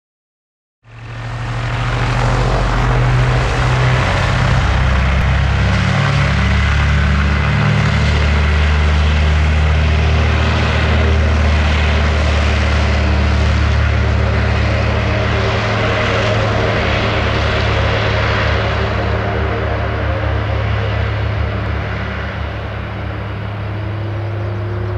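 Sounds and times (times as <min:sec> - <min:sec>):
propeller plane engines at takeoff: 0:00.8 - 0:24.9.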